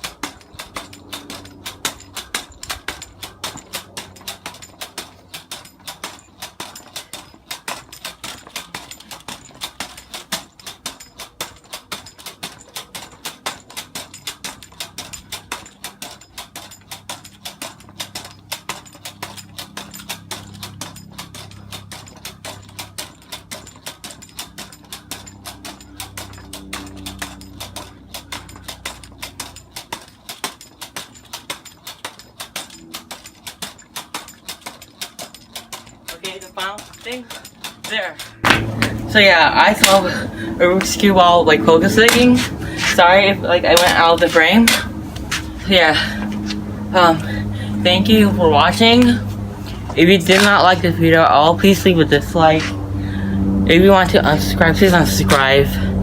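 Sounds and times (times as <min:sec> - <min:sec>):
pogo stick bouncing: 0:00.0 - 0:56.0.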